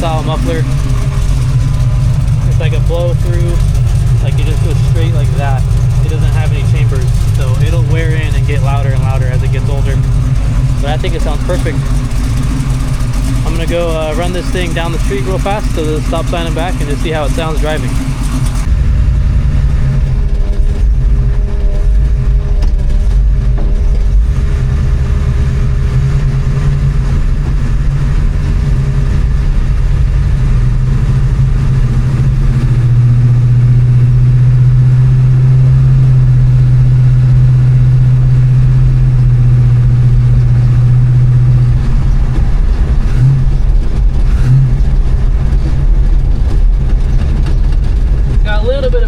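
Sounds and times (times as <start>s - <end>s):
truck engine exhaust drone: 0.0s - 49.0s.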